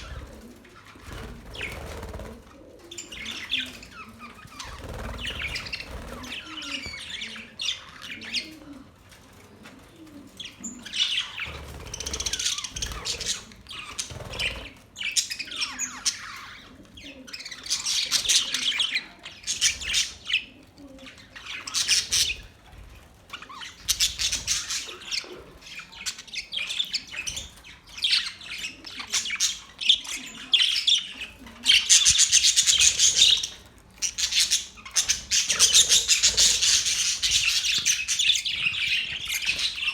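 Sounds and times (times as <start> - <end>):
parrots chirping and squawking: 0.0 - 8.6, 10.4 - 39.9.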